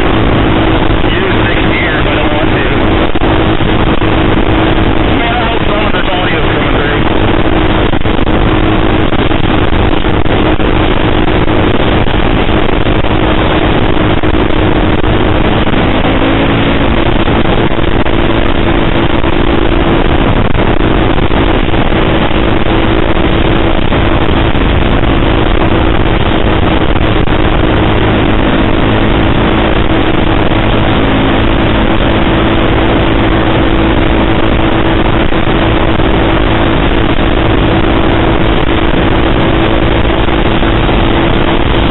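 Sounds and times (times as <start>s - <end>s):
motorcycle engine cruising: 0.0s - 41.9s
rushing wind noise: 0.0s - 41.9s.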